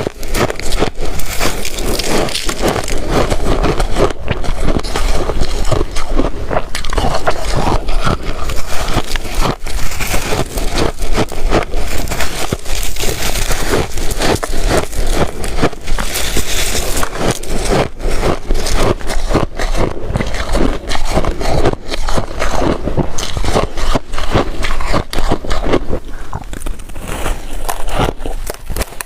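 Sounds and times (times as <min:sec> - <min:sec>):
ice being chewed and crunched: 0:00.0 - 0:29.0.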